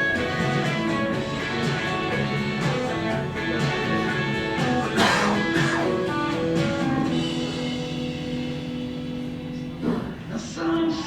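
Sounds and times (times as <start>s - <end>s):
picked and strummed guitar: 0.0s - 10.0s.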